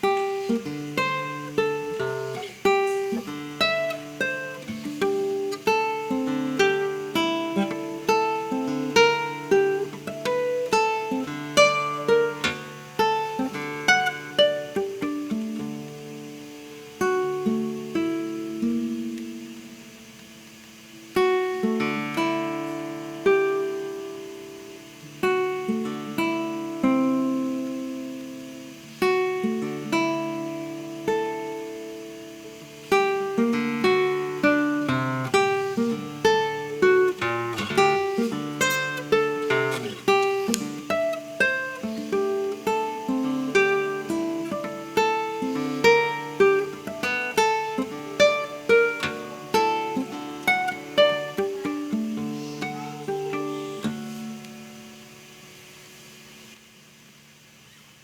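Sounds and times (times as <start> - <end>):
classical guitar playing: 0.0 - 56.7.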